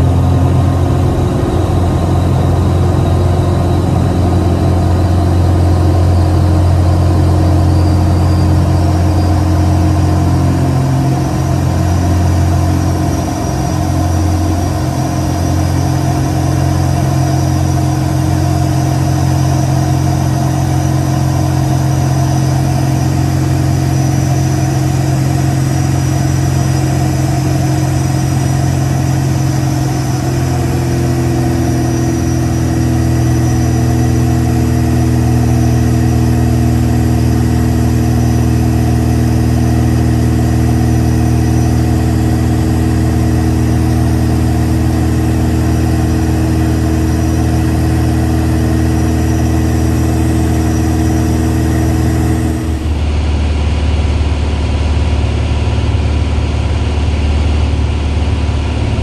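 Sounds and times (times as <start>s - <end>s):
dull engine inside cockpit: 0.0s - 59.0s
light aircraft engine and propeller: 0.0s - 59.0s.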